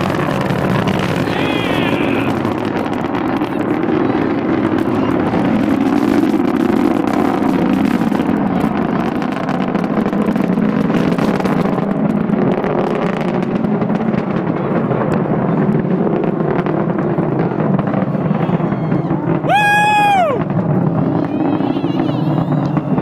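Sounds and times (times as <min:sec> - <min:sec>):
distant rocket engine rumble: 0:00.0 - 0:23.0.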